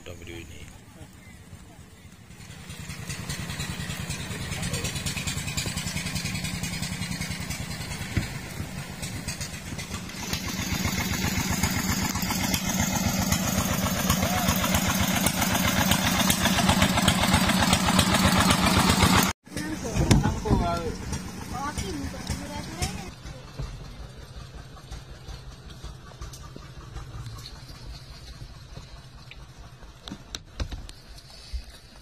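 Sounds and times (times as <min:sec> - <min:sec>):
small engine chugging: 0:00.0 - 0:32.0.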